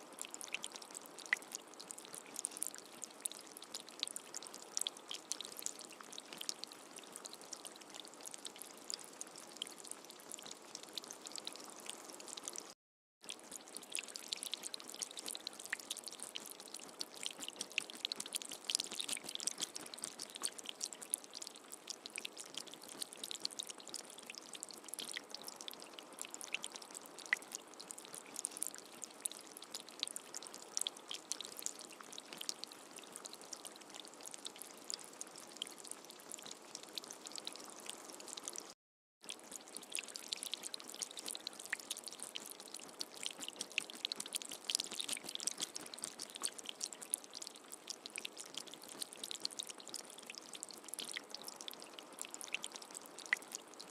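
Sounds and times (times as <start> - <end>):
steady rain patter: 0.0 - 12.8, 13.5 - 38.8, 39.4 - 53.9.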